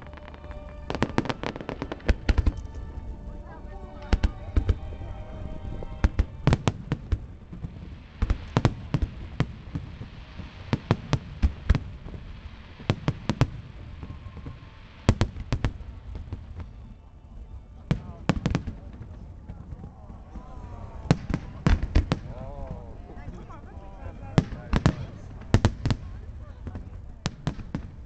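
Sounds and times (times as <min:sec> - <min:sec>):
fireworks bangs: 0:00.0 - 0:16.9, 0:17.8 - 0:28.0.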